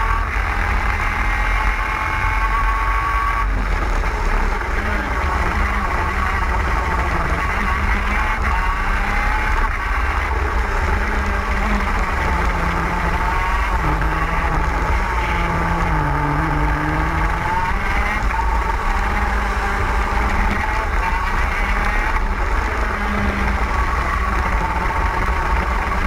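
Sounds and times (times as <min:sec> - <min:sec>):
kart engine at high revs: 0:00.0 - 0:26.0.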